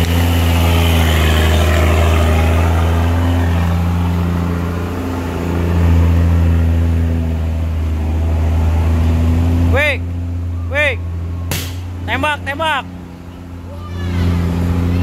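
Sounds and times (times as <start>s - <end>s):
diesel truck engine pulling away: 0.0s - 15.0s.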